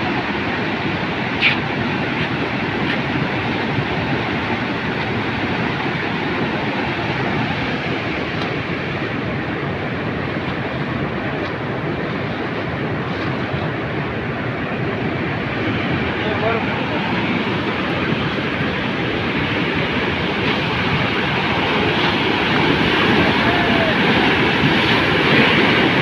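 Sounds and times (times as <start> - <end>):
river rushing torrent: 0.0 - 26.0.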